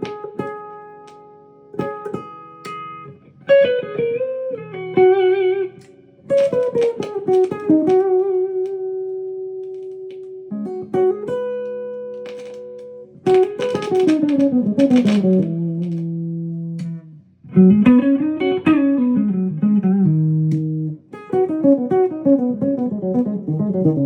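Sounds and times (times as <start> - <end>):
electric guitar lead line: 1.8 - 24.0.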